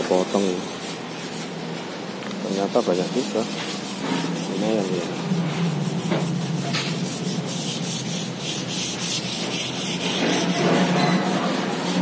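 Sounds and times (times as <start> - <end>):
low machine hum: 0.0 - 12.0
sanding strokes: 0.0 - 12.0.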